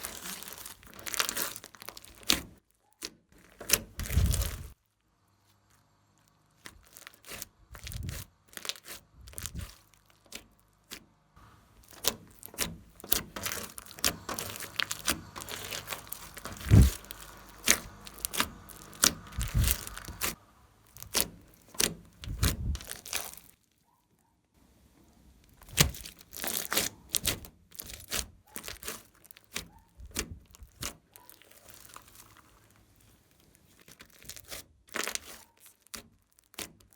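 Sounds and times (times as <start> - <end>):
sticky slime popping and crackling: 0.0 - 4.8, 6.6 - 11.0, 11.8 - 23.8, 25.5 - 36.9.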